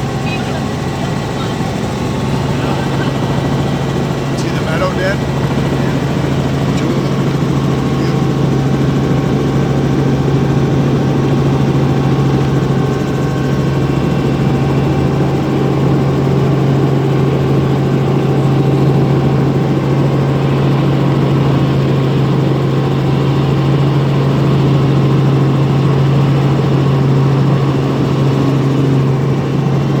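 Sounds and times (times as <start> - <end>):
helicopter droning: 0.0 - 30.0.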